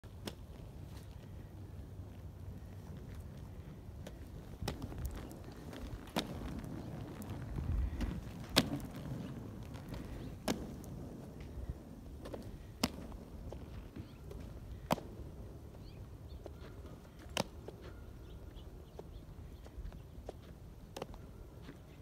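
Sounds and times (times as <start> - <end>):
skate wheels rolling on asphalt: 0.0 - 22.0.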